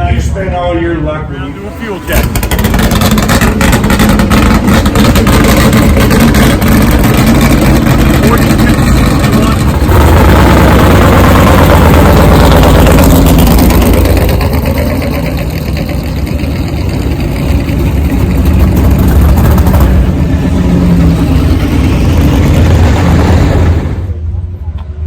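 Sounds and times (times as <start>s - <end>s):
engine rumbling: 0.0s - 25.0s.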